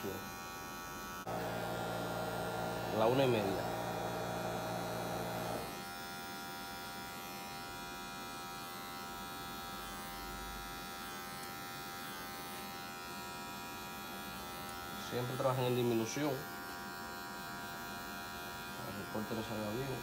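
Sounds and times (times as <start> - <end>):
electric hair clipper buzzing: 0.0 - 20.0.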